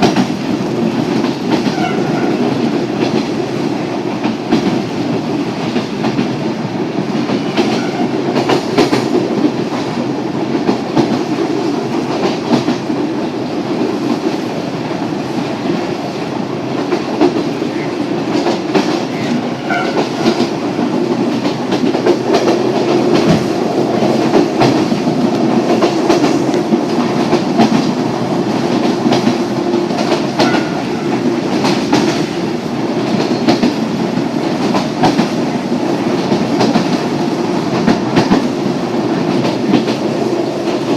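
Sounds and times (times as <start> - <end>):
train wheels rumbling on rail: 0.0 - 40.9
wheels clacking over rail joints: 0.0 - 40.9.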